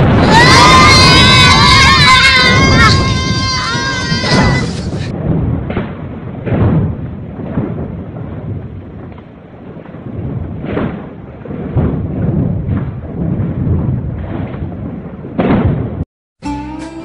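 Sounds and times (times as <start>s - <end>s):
low rumbling with thuds: 0.0s - 16.1s.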